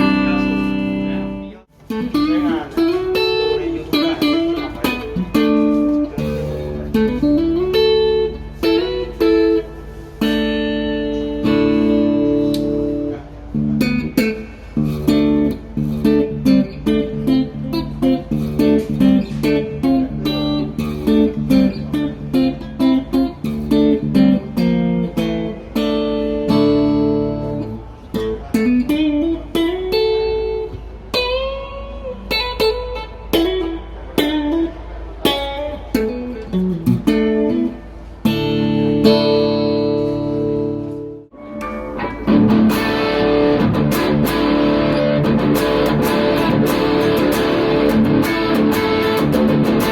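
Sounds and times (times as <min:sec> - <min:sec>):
electric guitar playing: 0:00.0 - 0:49.9.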